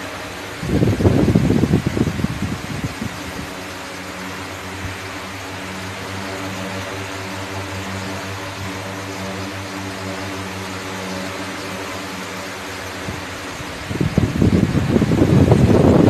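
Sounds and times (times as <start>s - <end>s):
even hiss: 0.0s - 16.0s
low mechanical drone with tones: 0.0s - 16.0s.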